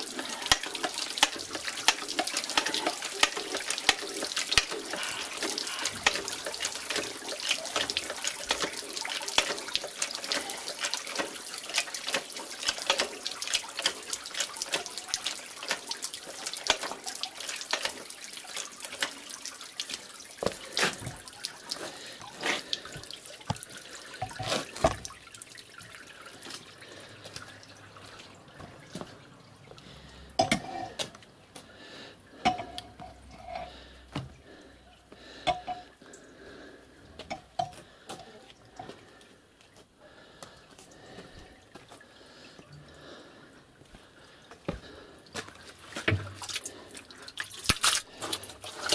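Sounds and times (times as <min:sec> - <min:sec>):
water trickling from wet pulp: 0:00.0 - 0:48.9.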